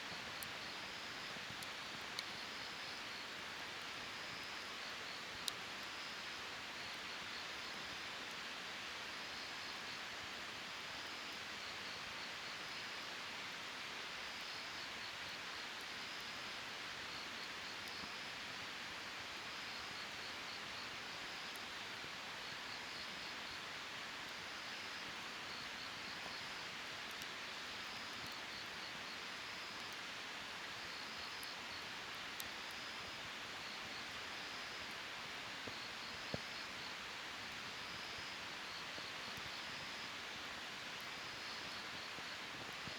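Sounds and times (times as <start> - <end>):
campfire hissing and popping: 0.0 - 11.5, 12.6 - 42.9.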